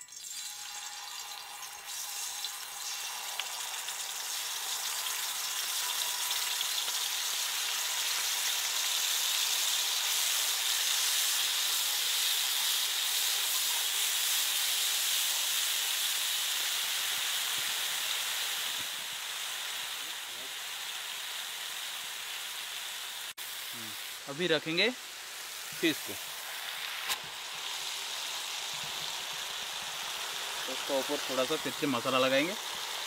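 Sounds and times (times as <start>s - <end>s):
paste sizzling in hot oil: 0.0s - 33.0s.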